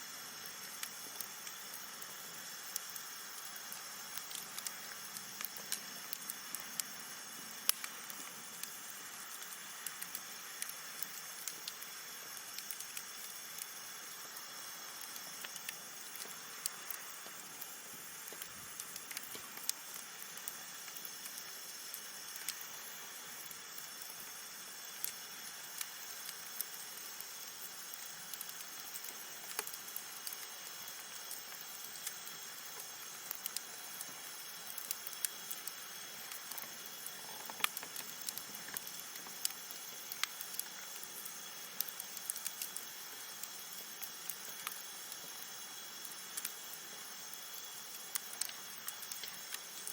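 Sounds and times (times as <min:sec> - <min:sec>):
campfire crackling and hissing: 0:00.0 - 0:49.9.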